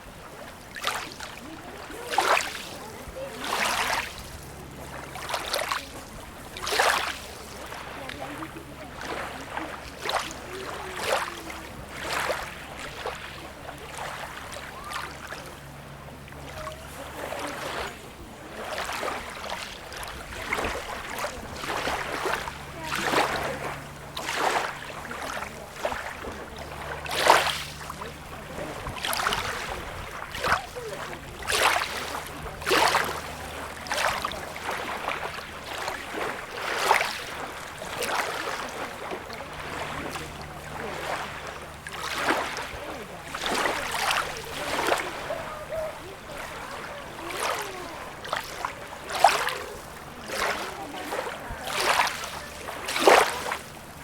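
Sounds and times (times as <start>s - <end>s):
small waves splashing on shore: 0.0s - 54.0s.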